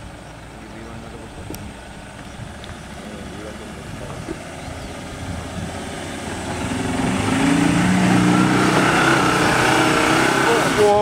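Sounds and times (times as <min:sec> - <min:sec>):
diesel engine revving under load: 0:00.0 - 0:11.0.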